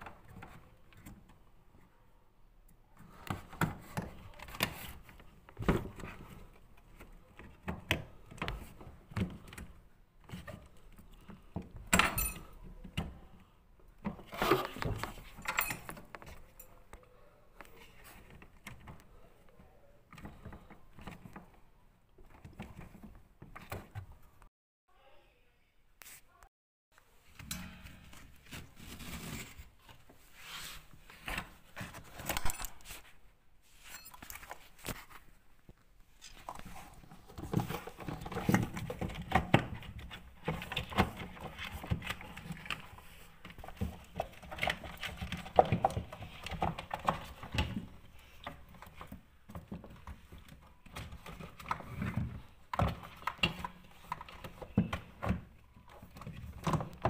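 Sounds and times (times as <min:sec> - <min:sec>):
scraping and handling noise: 0:00.0 - 0:24.5, 0:27.0 - 0:57.0.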